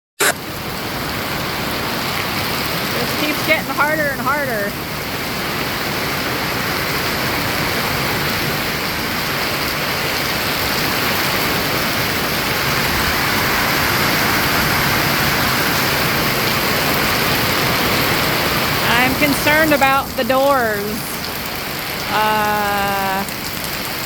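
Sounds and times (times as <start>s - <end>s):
heavy rain pouring: 0.2s - 24.0s.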